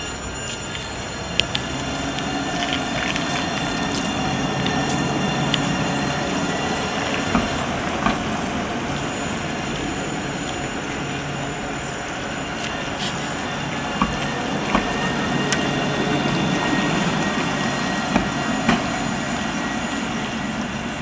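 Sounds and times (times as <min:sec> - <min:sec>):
tram rumbling on rails: 0:00.0 - 0:21.0.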